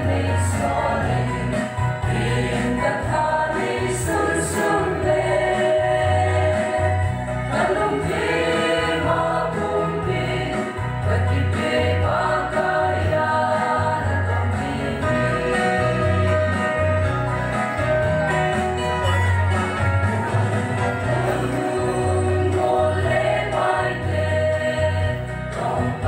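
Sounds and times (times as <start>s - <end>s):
women singing gospel: 0.0s - 16.3s, 21.1s - 26.0s
instrumental backing with bass: 0.0s - 26.0s.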